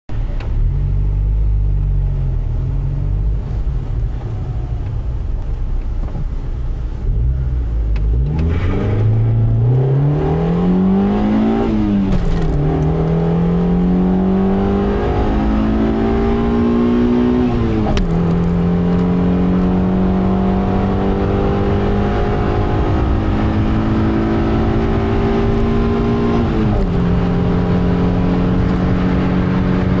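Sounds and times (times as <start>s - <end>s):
car engine accelerating: 0.1s - 30.0s.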